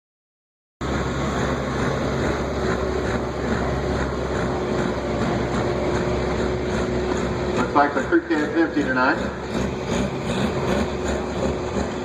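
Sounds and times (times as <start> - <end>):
pickup truck engine running: 0.8 - 12.0.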